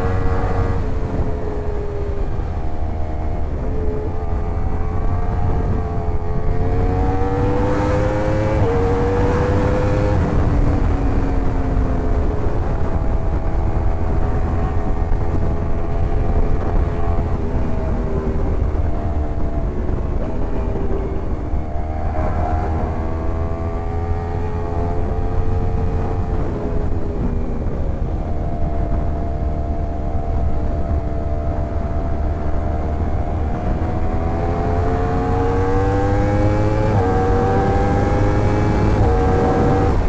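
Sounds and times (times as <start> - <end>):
motorcycle engine revving: 0.0 - 40.0
wind rumble on microphone: 0.0 - 40.0.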